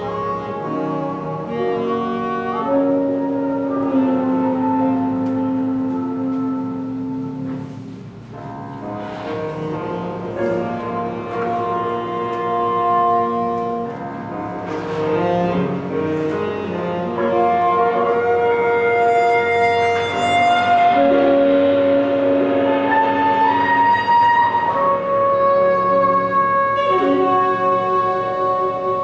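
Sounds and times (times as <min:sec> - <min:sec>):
horns holding long notes: 0:00.0 - 0:08.2, 0:08.9 - 0:29.0
small jazz band playing: 0:00.0 - 0:29.0.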